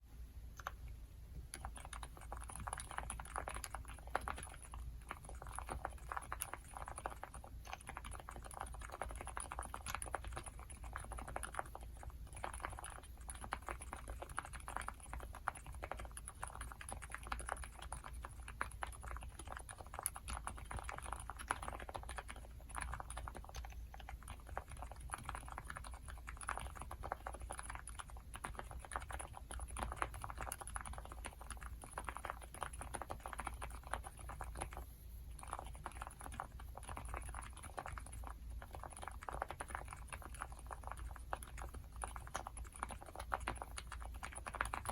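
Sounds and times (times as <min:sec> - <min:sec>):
soft keyboard typing: 0:00.5 - 0:44.9.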